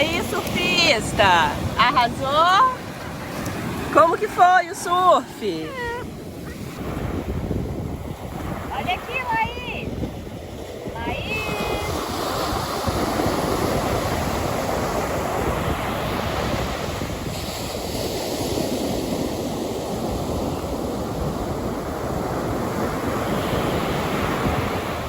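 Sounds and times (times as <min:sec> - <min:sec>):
ocean waves rushing: 0:00.0 - 0:25.0
wind buffeting microphone: 0:00.0 - 0:25.0.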